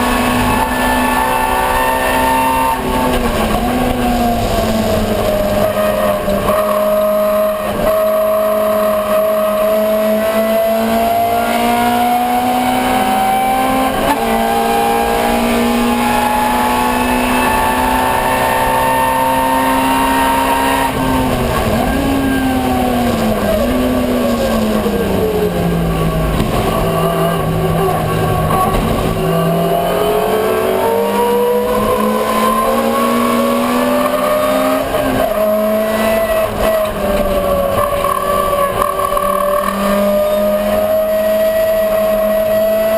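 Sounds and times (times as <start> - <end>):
car engine revving high: 0.0 - 42.9.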